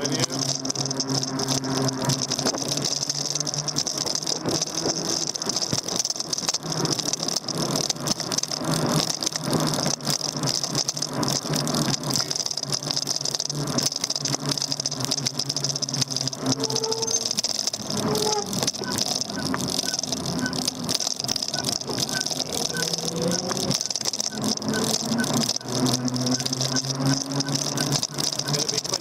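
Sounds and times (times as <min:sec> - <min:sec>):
e-bike rattling and knocking: 0:00.0 - 0:29.0
high whine: 0:00.0 - 0:29.0
low hum: 0:00.0 - 0:29.0.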